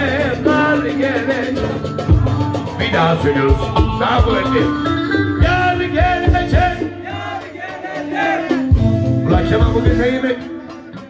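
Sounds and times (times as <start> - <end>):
drum beat: 0.0 - 11.0.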